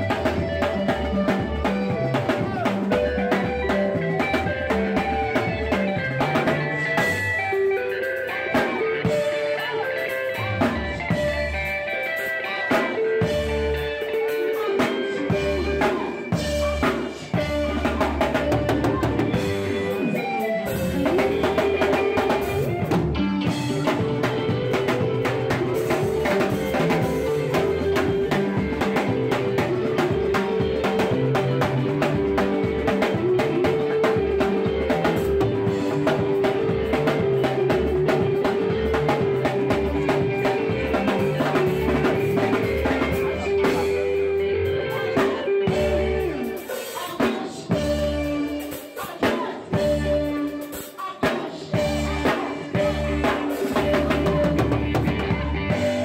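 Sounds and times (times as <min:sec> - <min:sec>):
live band dance music: 0:00.0 - 0:56.0.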